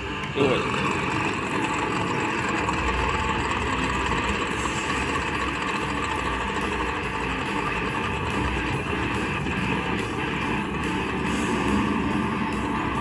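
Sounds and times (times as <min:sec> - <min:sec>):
engine-like rumble: 0:00.0 - 0:13.0.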